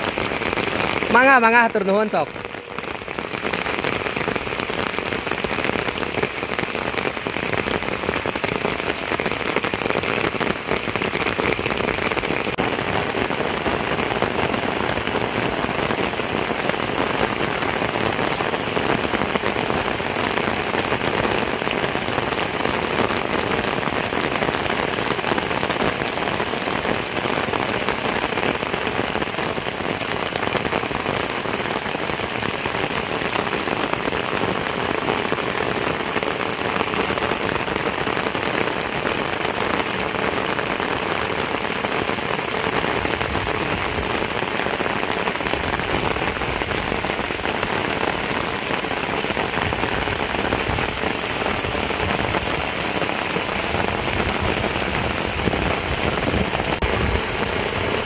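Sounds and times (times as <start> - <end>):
heavy rain on roofs and plants: 0.0 - 58.0.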